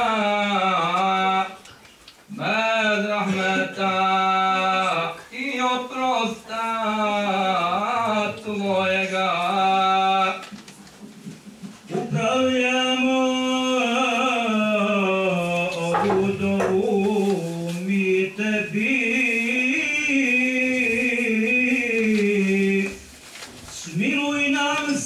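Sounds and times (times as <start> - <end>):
man chanting unaccompanied: 0.0 - 1.6, 2.3 - 10.5, 11.9 - 23.1, 23.7 - 25.0.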